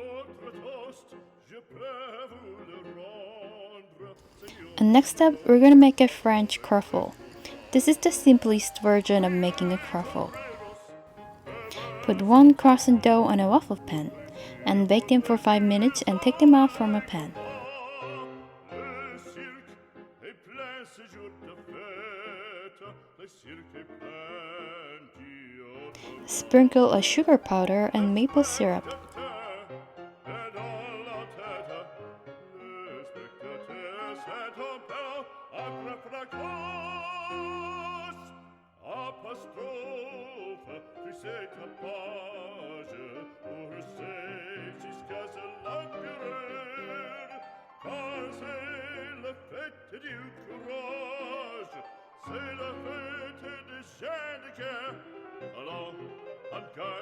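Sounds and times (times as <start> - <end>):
operatic singing voice: 0.0 - 57.0.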